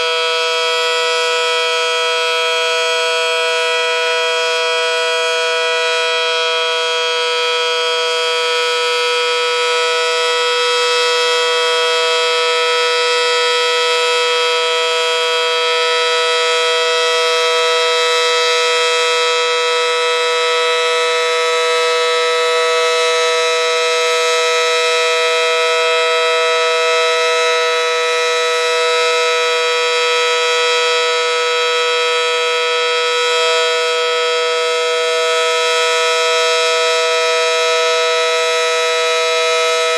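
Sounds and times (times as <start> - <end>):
warning siren steady two-note chord: 0.0 - 39.9.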